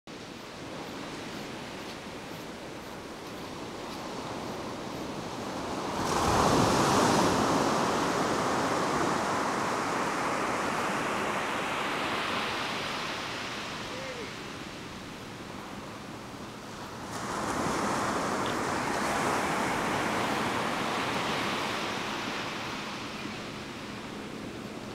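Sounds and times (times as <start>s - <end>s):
small waves breaking on sand: 0.2s - 24.9s.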